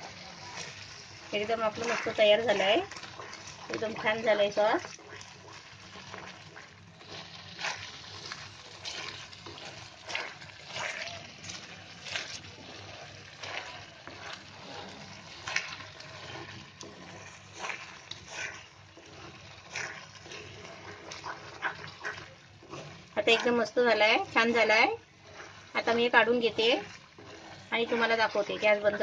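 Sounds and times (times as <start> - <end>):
tomato sauce bubbling: 0.0 - 29.0
wooden spatula scraping pan: 0.0 - 29.0.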